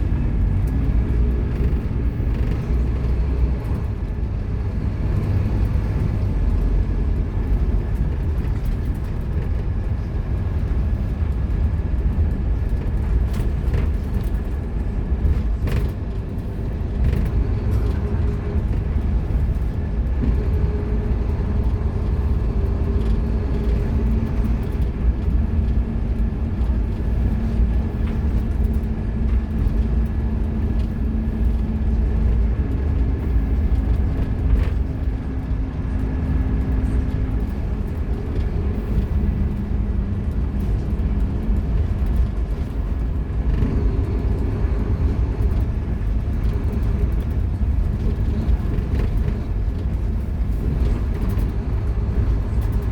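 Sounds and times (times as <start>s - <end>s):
bus diesel engine rumbling: 0.0s - 52.9s.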